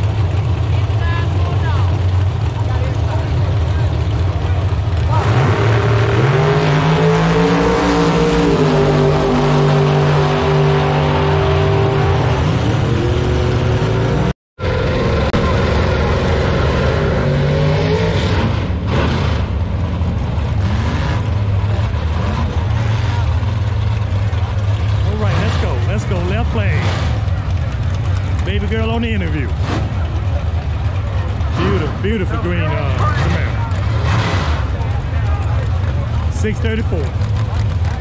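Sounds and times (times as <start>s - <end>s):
low steady engine rumble: 0.0s - 38.0s
race cars at full throttle: 0.0s - 38.0s.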